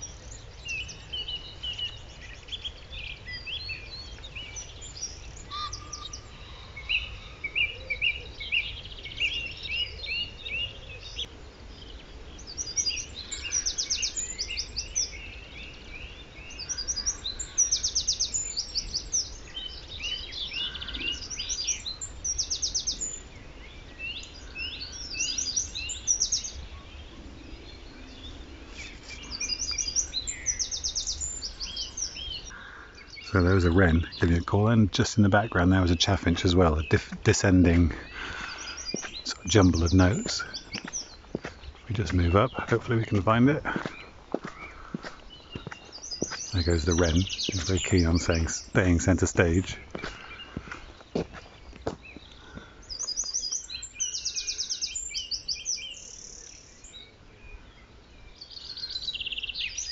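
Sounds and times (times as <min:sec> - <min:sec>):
chaffinch song: 0:00.0 - 0:59.9
song thrushes singing: 0:00.0 - 0:59.9
wren singing rapid trills: 0:00.0 - 0:59.9.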